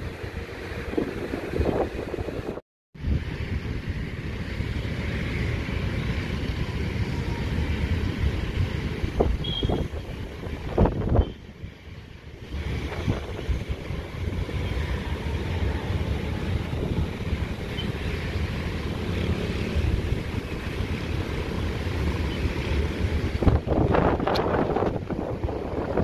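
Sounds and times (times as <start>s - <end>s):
jet engines rumbling: 0.0s - 26.0s
wind noise on microphone: 0.0s - 26.0s.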